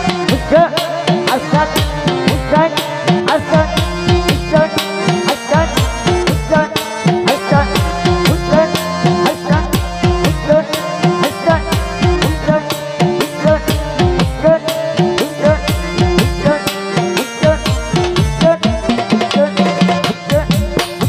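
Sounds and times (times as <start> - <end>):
hand drums with sliding bass: 0.0 - 21.0
sustained melody notes: 0.0 - 21.0.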